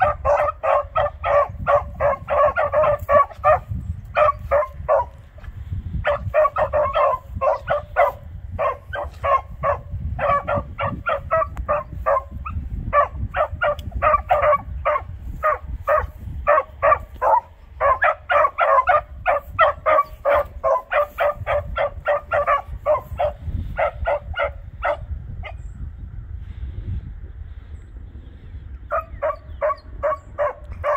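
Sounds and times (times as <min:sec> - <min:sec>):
dogs barking: 0:00.0 - 0:05.3, 0:06.0 - 0:25.6, 0:28.9 - 0:30.9.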